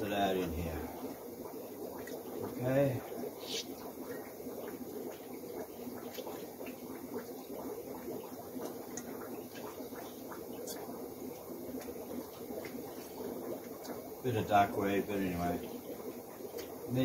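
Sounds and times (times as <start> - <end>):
aquarium air bubbling: 0.0 - 17.0.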